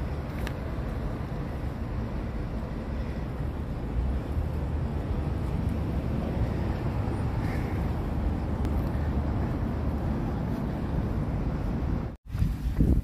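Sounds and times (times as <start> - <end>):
tram running on track: 0.0 - 12.2
wind buffeting microphone: 0.0 - 13.0.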